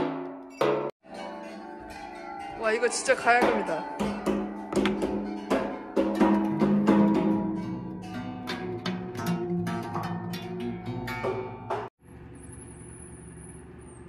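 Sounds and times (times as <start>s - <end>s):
plucked zither notes: 0.6s - 11.9s.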